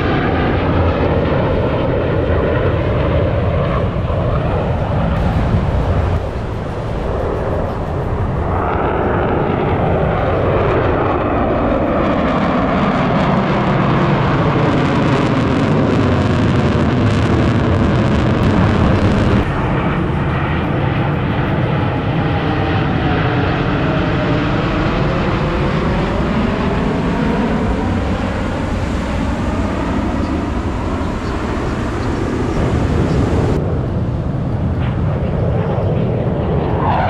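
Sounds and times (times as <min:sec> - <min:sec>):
jets flying past: 0:00.0 - 0:37.0.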